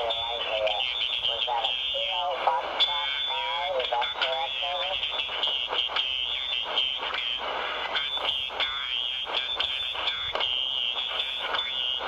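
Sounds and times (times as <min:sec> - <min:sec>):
radio band noise: 0:00.0 - 0:12.0
static crackles: 0:00.0 - 0:12.0.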